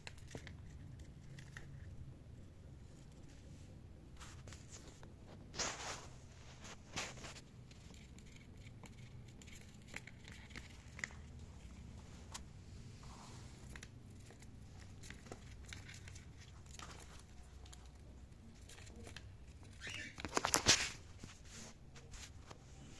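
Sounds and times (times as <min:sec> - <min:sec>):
crinkly rustling: 0:02.7 - 0:22.9.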